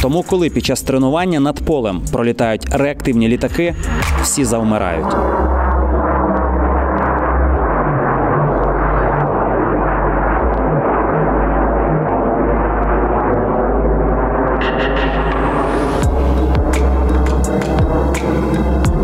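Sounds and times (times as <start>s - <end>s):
jet aircraft flying overhead: 3.6s - 19.0s.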